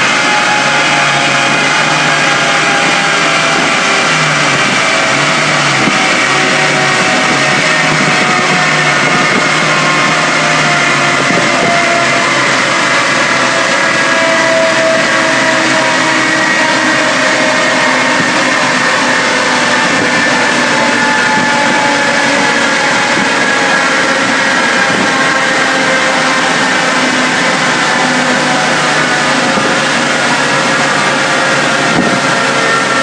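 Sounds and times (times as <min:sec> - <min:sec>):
car engine running hard: 0:00.0 - 0:33.0.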